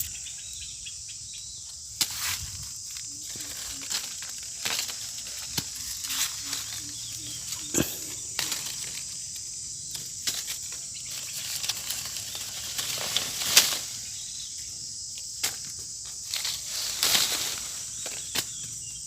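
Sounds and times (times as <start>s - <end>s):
high-pitched insect drone: 0.0s - 19.0s
branches and leaves rustling: 1.4s - 19.0s.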